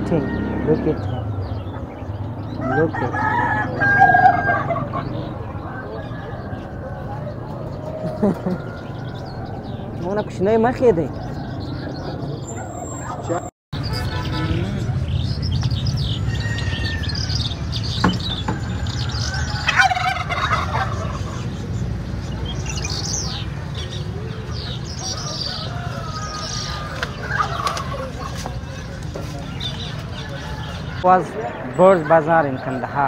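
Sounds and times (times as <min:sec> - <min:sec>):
caged birds chirping: 0:00.0 - 0:33.0.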